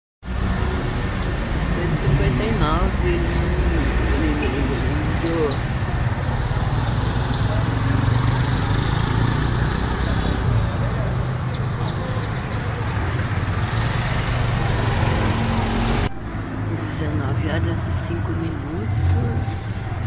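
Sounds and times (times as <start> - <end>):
road traffic engine hum: 0.2 - 20.0.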